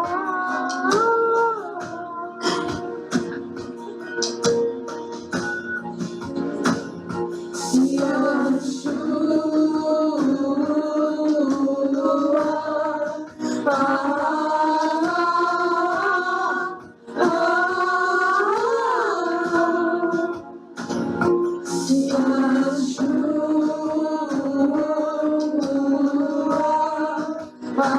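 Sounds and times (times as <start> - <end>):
instrumental backing music: 0.0 - 27.9.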